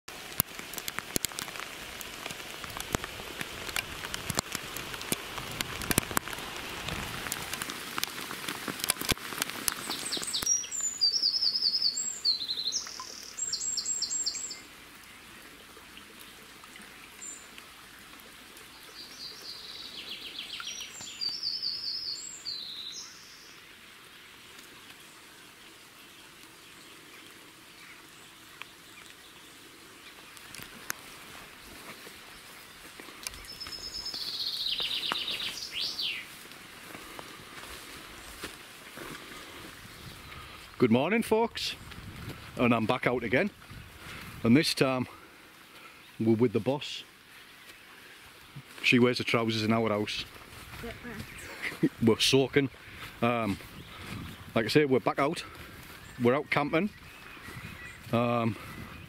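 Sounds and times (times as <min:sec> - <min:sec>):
rain falling: 0:00.1 - 0:56.5
faint wet-weather background: 0:00.1 - 0:59.0
songbird singing: 0:09.7 - 0:59.0.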